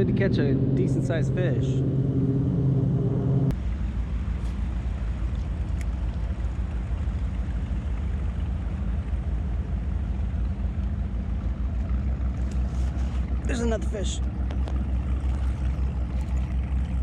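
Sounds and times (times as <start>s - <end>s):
low steady rumble: 0.0s - 17.0s
motorboat engine hum: 0.0s - 17.0s.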